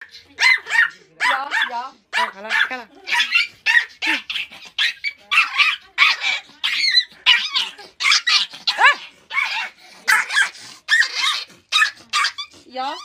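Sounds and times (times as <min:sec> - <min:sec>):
puppy yapping: 0:00.0 - 0:13.0.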